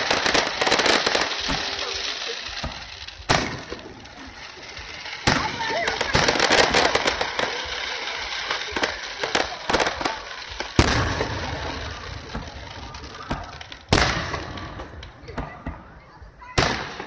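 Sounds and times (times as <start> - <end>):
fireworks crackling pops: 0.0 - 17.0
loud firework booms: 0.0 - 17.0.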